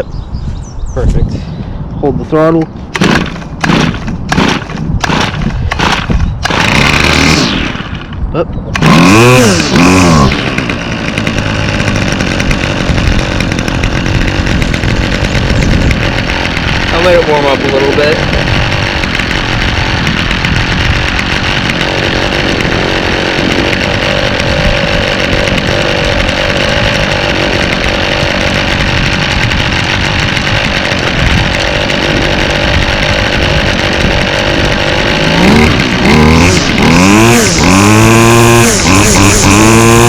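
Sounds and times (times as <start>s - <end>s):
string trimmer engine revving: 2.9s - 40.0s.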